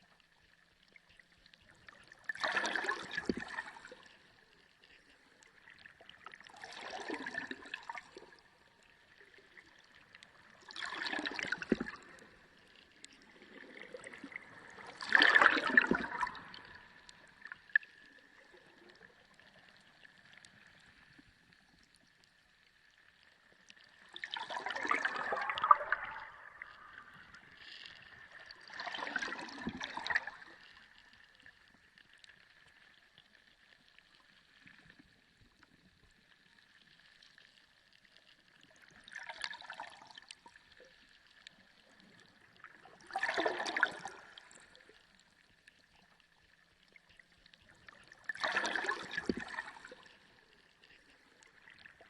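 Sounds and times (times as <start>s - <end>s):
underwater water surging: 0.0s - 52.0s.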